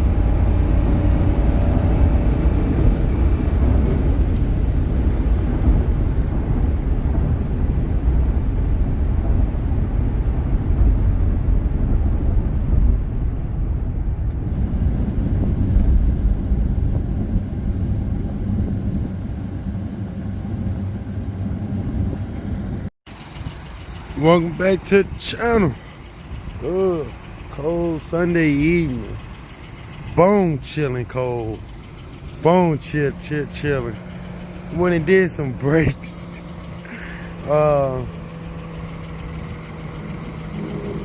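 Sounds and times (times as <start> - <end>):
car engine low rumble: 0.0 - 41.0
road noise: 0.0 - 41.0.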